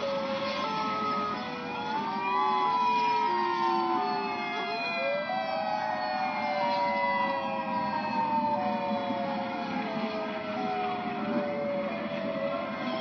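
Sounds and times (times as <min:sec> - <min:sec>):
warning sirens wailing: 0:00.0 - 0:13.0.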